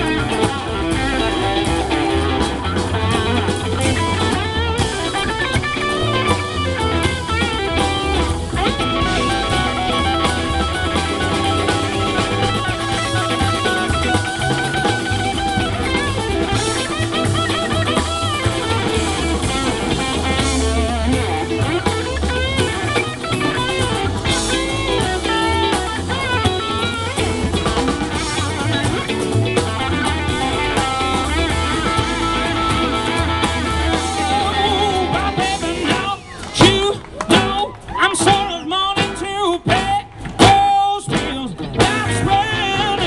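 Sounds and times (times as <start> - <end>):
blues band playing: 0.0 - 43.0
lead guitar bending notes: 0.0 - 43.0.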